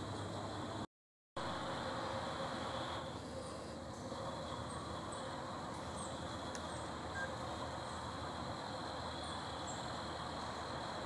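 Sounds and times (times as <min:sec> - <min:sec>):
steady hiss: 0:01.4 - 0:11.0.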